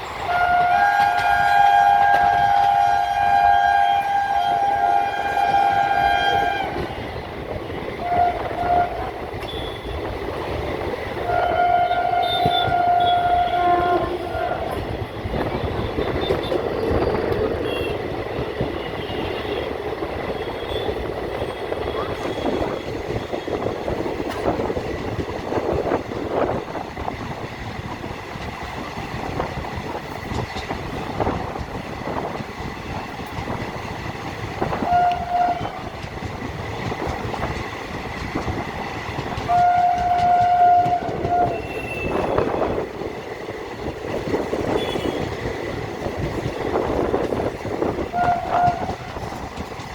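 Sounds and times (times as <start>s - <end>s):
train rumbling on track: 0.0s - 49.9s
wheels clacking over rail joints: 0.0s - 49.9s.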